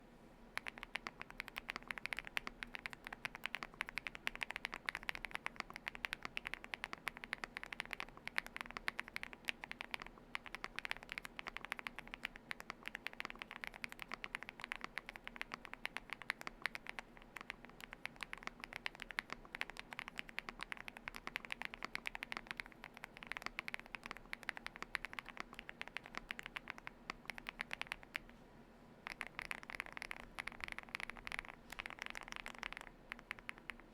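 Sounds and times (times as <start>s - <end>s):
fast mechanical keyboard typing: 0.6s - 28.3s, 29.1s - 33.9s.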